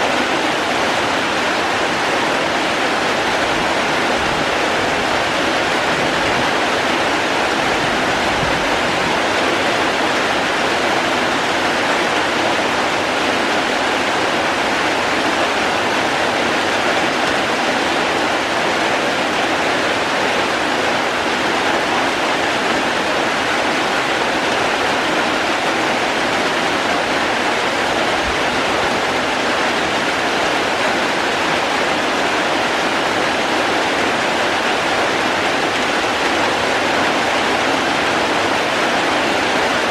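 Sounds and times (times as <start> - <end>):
hiss of heavy falling water: 0.0 - 39.9.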